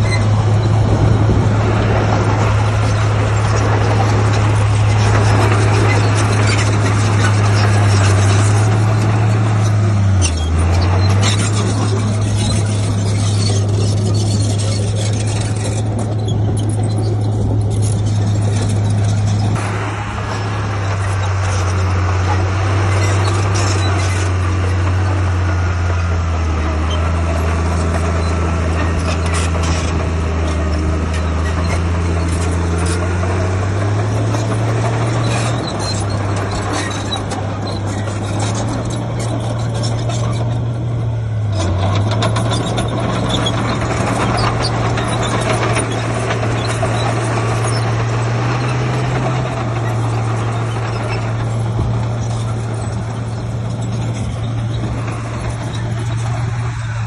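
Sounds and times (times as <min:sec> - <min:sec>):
constant clatter: 0:00.0 - 0:57.0
diesel machinery engine running: 0:00.0 - 0:57.0.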